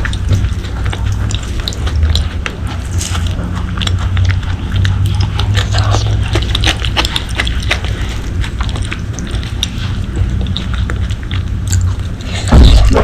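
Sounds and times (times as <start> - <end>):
chewing and biting meat: 0.0 - 13.0.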